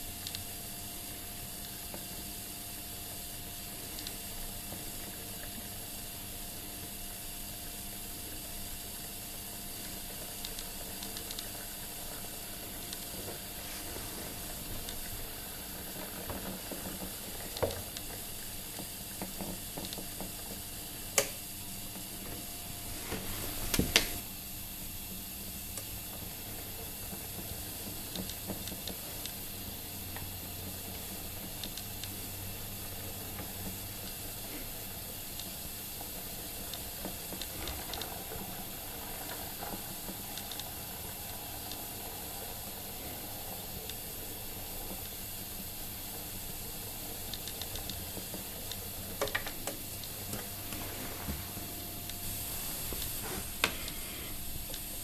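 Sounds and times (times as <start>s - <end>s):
low hiss with faint hum: 0.0s - 55.0s.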